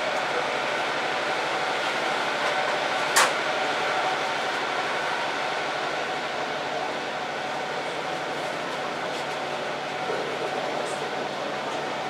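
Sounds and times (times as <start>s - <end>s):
railcar engine drone: 0.0s - 12.0s.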